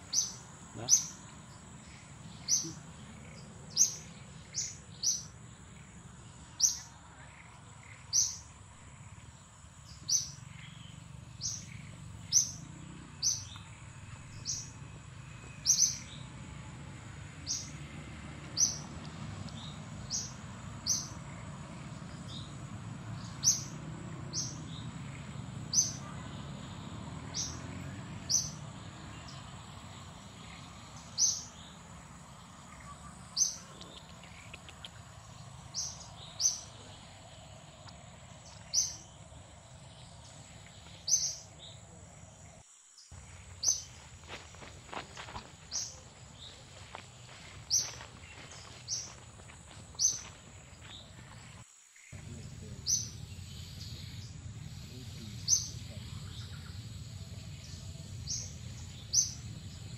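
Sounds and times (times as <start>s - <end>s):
bird chirping: 0.0s - 16.5s, 17.2s - 59.9s.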